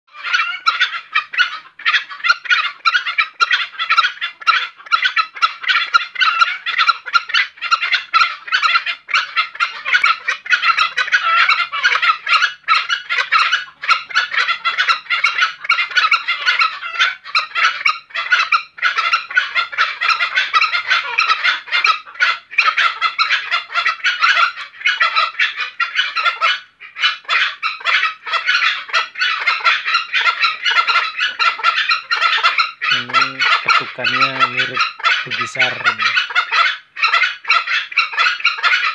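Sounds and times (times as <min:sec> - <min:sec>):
junglefowl rapid calls: 0:00.1 - 0:38.9.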